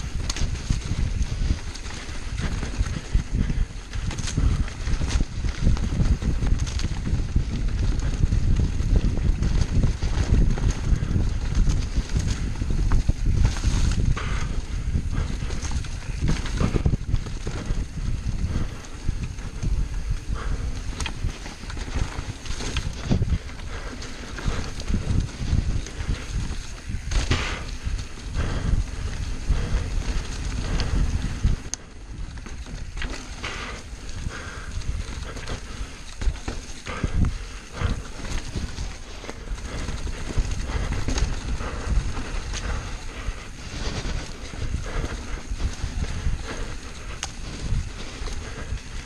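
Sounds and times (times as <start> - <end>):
bike rattling and knocking: 0.0 - 49.0
tyre and wind rumble: 0.0 - 49.0.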